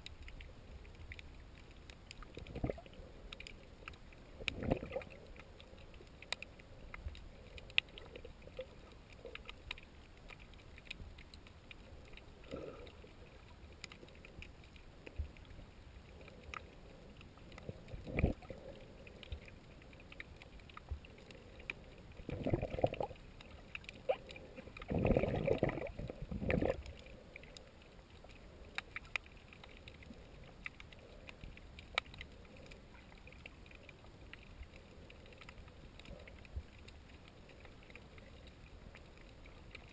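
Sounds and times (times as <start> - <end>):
faint underwater hiss: 0.0 - 39.9
sharp underwater clicks: 0.0 - 39.9.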